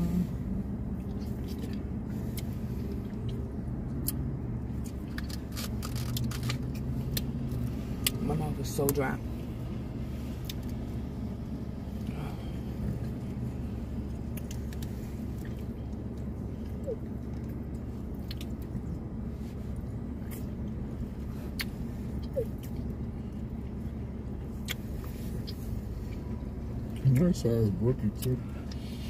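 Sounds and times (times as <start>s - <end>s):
car idling hum: 0.0s - 29.0s.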